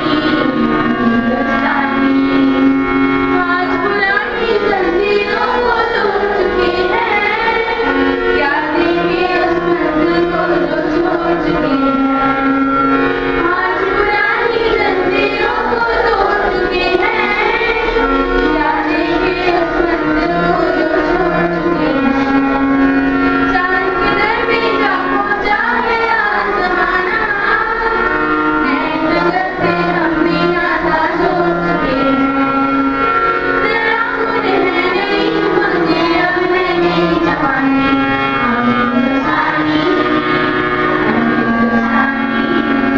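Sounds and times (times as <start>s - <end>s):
girls singing into microphones: 0.0s - 42.9s.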